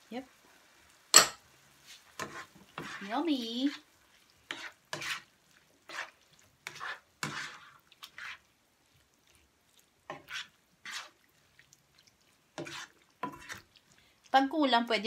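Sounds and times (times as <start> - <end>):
spatula scraping frying pan: 1.7 - 14.1.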